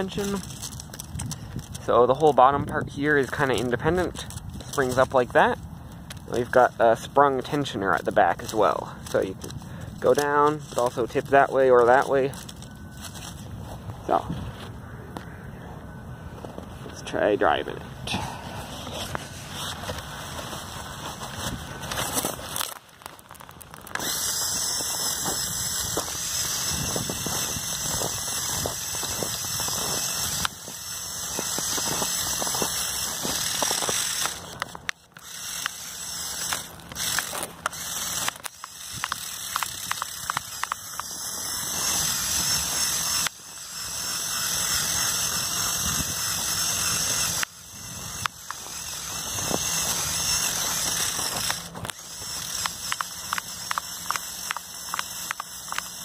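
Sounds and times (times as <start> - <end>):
toy motors whining: 0.0 - 15.3, 16.2 - 56.0.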